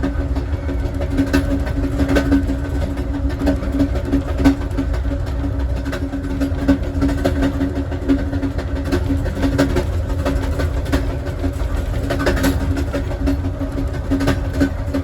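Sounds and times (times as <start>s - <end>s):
constant hum: 0.0s - 15.0s
train wheels rumbling on rail: 0.0s - 15.0s.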